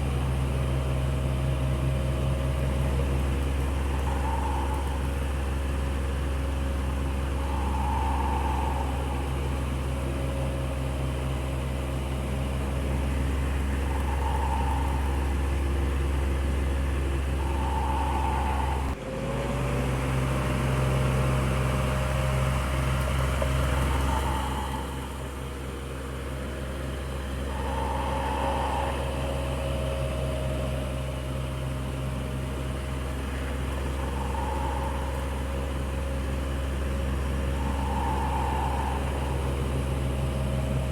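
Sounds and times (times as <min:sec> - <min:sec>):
electric fan humming: 0:00.0 - 0:19.0, 0:20.6 - 0:40.9.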